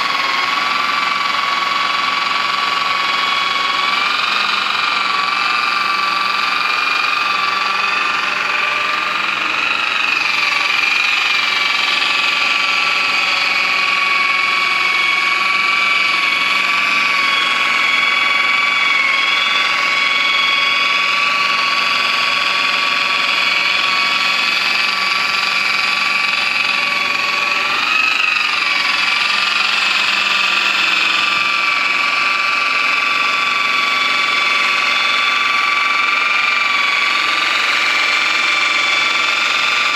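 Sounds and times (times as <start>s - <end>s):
electric polisher whining: 0.0s - 39.9s.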